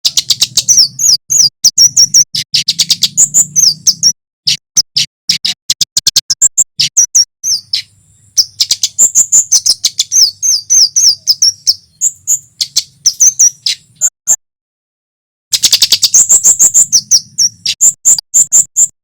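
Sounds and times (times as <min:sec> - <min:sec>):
bird song with sharp chips: 0:00.0 - 0:14.4, 0:15.5 - 0:19.0.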